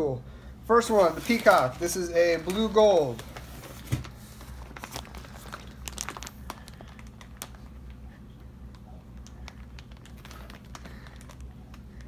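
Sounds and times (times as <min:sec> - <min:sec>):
plastic bag crinkling: 0:00.8 - 0:12.0.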